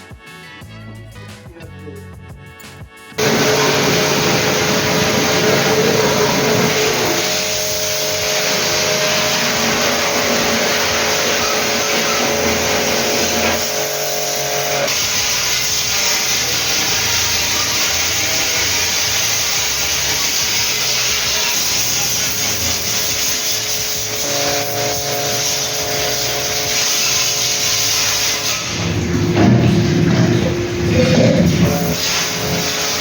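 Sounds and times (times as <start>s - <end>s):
motor-driven machine running: 3.2s - 33.0s.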